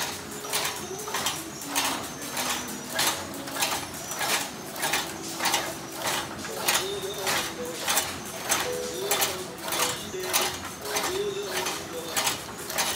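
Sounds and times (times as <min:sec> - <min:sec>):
machine clacking: 0:00.0 - 0:12.9.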